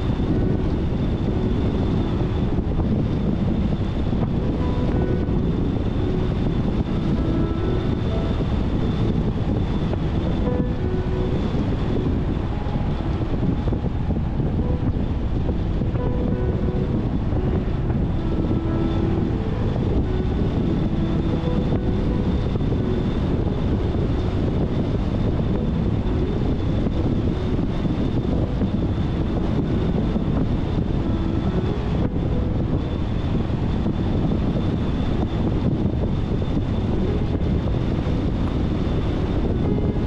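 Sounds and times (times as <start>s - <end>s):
car driving on asphalt: 0.0s - 40.0s
faint high whine: 0.0s - 40.0s.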